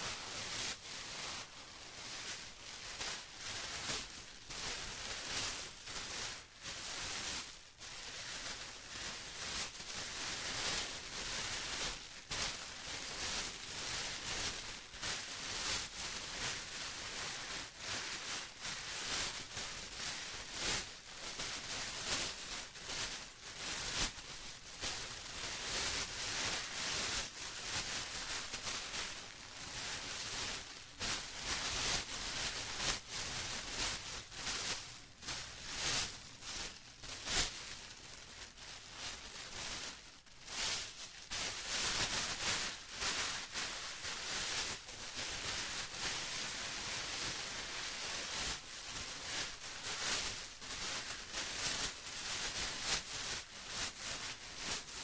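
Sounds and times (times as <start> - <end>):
plastic rustling and crinkling: 0.0 - 55.0.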